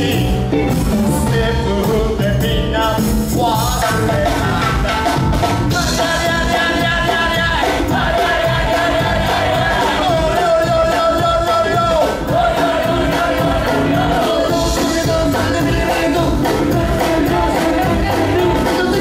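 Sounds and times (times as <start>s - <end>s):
drum beat: 0.0s - 19.0s
guitar: 0.0s - 19.0s
live band music: 0.0s - 19.0s
person singing: 0.0s - 19.0s.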